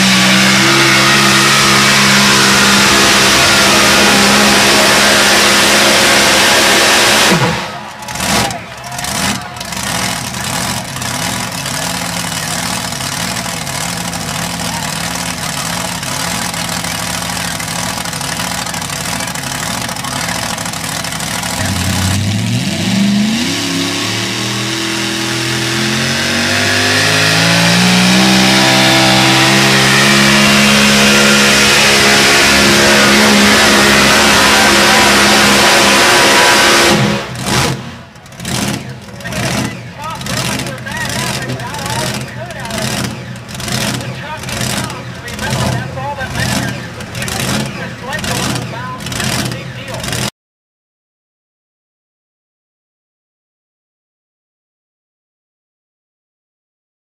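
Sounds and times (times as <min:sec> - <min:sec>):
truck engine revving: 0:00.0 - 0:50.3.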